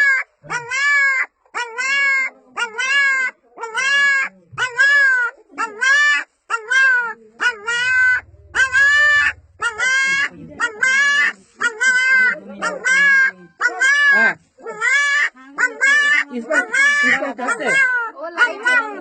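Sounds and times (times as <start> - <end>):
puppy crying: 0.0 - 19.0.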